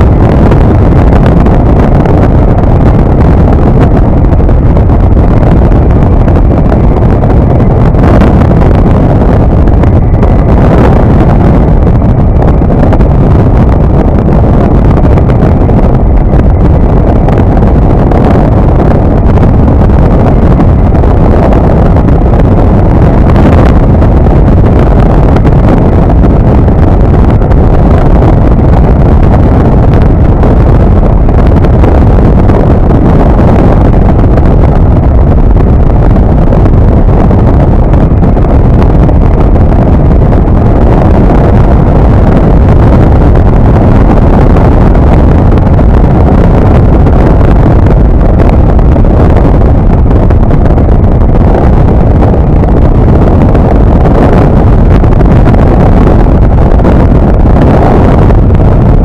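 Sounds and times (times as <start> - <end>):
aircraft engine drone: 0.0 - 54.5
wind buffeting microphone: 0.0 - 59.0.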